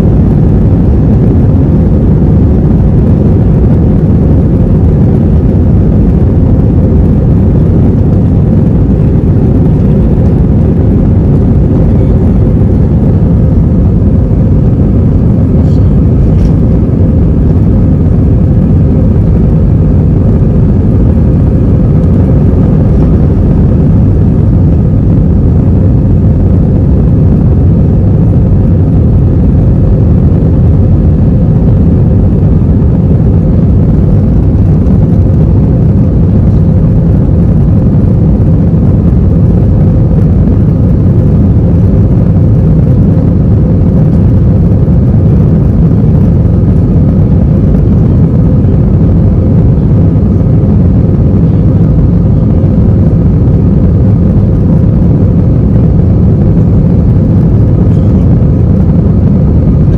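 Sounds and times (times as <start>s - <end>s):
faint steady hum: 0.0s - 59.9s
jet engine rumble in cabin: 0.0s - 59.9s.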